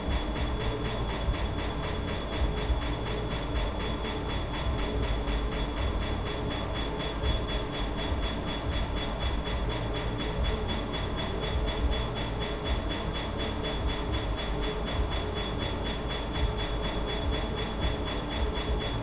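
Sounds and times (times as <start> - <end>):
cooling machine air rush: 0.0 - 19.0
high equipment whine: 0.0 - 19.0.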